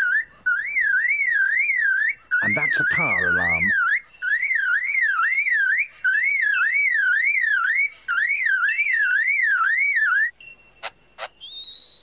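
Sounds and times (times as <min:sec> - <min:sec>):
lyrebird mimicking a car alarm: 0:00.0 - 0:12.0.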